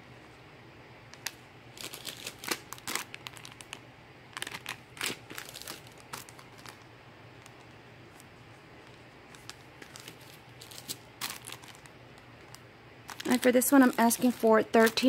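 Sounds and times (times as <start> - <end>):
plastic packaging crinkling: 1.2 - 8.2, 8.8 - 15.0.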